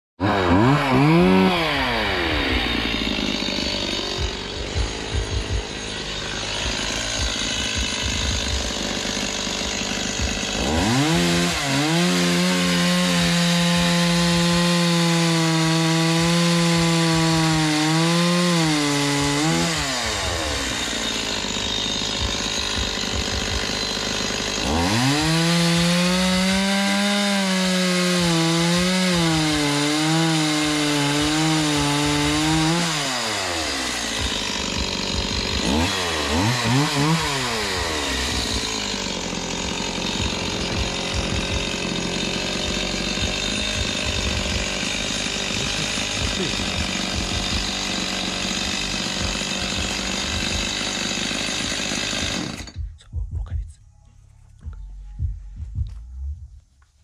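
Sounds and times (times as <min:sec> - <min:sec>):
chainsaw cutting through log: 0:00.2 - 0:52.9.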